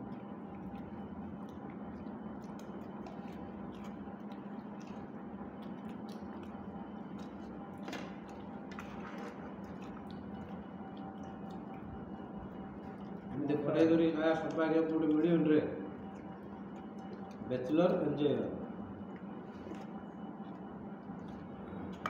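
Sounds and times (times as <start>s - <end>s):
soft chewing and squishing: 0.0s - 22.0s
steady low hum: 0.0s - 22.0s.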